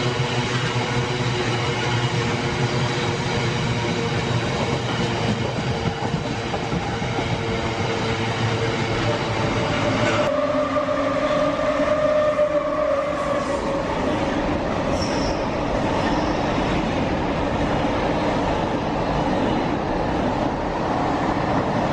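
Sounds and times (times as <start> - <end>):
train rumbling on rails: 0.0 - 21.9.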